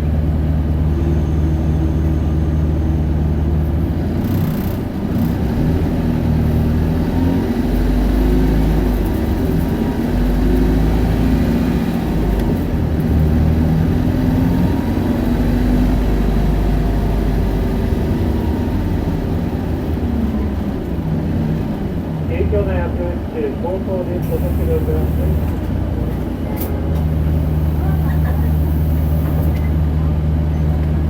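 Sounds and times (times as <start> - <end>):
bus diesel engine accelerating: 0.0 - 31.0.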